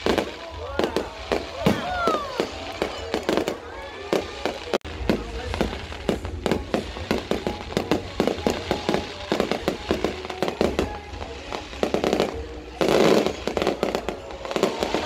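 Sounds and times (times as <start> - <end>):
fireworks bursting: 0.0 - 15.0
fireworks crackling: 0.0 - 15.0.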